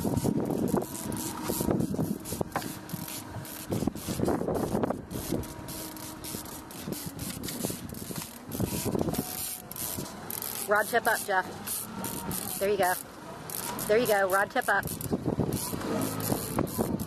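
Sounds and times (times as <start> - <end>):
fishing reel clicking and buzzing: 0.0 - 17.0
whining tones: 0.0 - 17.0.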